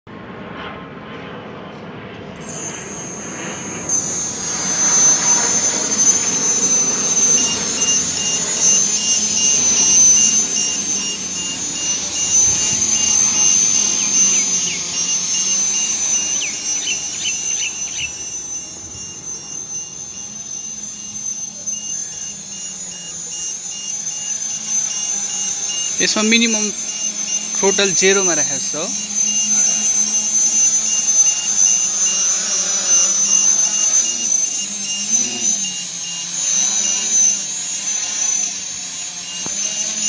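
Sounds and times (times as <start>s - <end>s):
propeller noise: 0.2s - 40.0s
drone motors whining: 2.2s - 40.0s.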